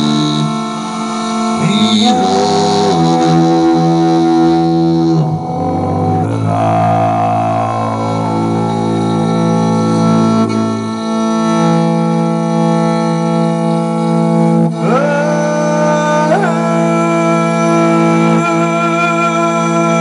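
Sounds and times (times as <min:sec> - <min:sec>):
overtone singing: 0:00.0 - 0:12.7, 0:14.6 - 0:20.0
bowed fiddle: 0:00.0 - 0:20.0.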